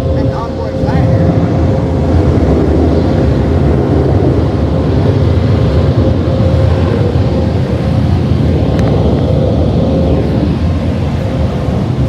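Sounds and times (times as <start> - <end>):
car wash dryer blowing air: 0.0 - 12.0.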